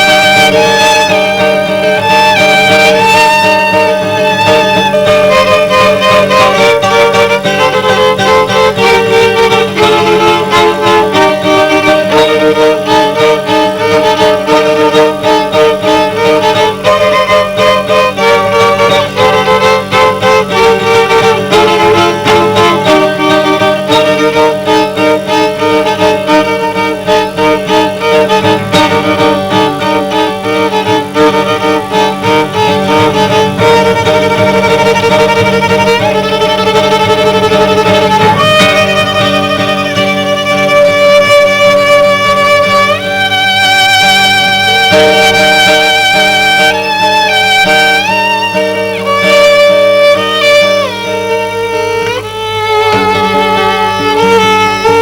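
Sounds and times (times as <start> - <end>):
rhythmic guitar accompaniment: 0.0 - 55.0
violin melody: 0.0 - 55.0.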